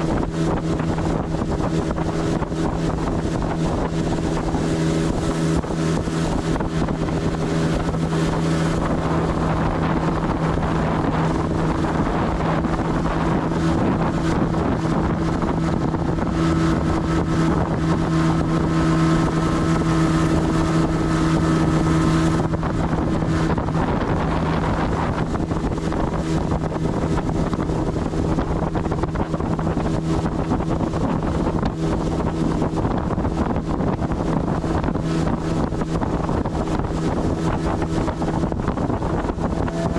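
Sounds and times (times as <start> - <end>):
outboard motor running: 0.0 - 39.9
wind buffeting microphone: 0.0 - 39.9.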